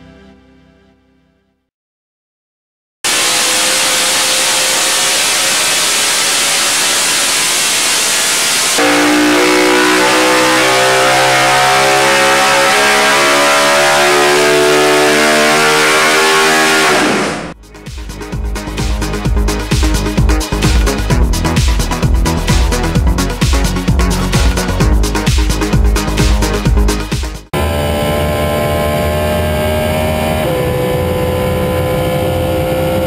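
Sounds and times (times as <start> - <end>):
race engine revving at full throttle: 3.1 - 17.6, 18.2 - 33.0.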